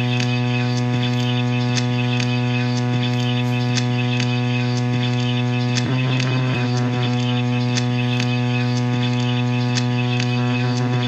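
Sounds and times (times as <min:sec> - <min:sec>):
electronic drone buzzing hum: 0:00.0 - 0:11.0.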